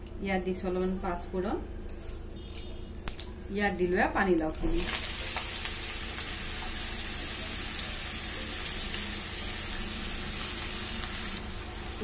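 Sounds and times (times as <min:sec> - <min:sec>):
vegetables sizzling in hot oil: 0:01.9 - 0:12.0.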